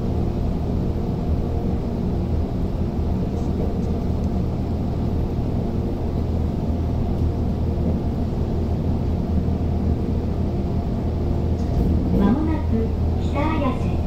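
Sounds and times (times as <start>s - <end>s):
faint even hum: 0.0s - 14.0s
train wheels rumbling on rails: 0.0s - 14.0s.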